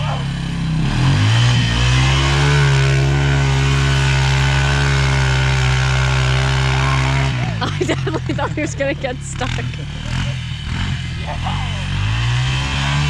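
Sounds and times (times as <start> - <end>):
quad engine at high revs: 0.0 - 13.0.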